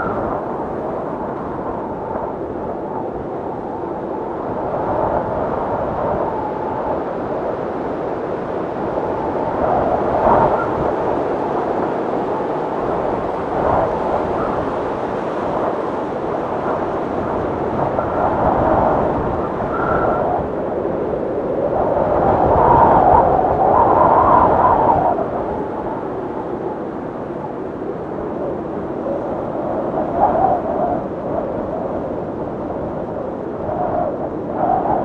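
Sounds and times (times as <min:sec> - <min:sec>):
blizzard wind blowing hard: 0:00.0 - 0:35.0
faint wind whistle: 0:00.0 - 0:35.0.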